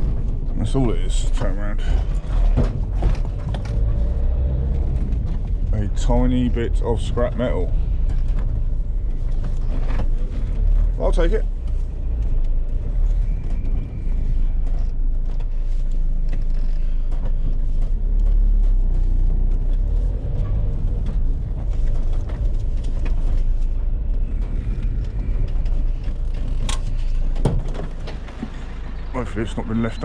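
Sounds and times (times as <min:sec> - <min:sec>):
van engine and road rumble: 0:00.0 - 0:30.0.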